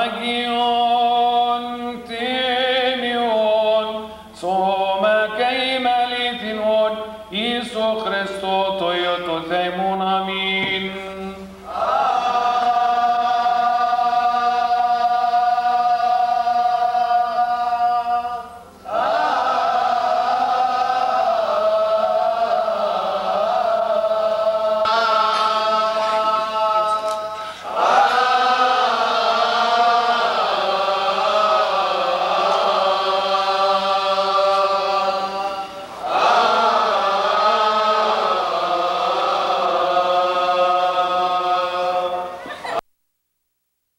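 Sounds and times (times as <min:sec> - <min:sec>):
liturgical chant: 0:00.0 - 0:42.8.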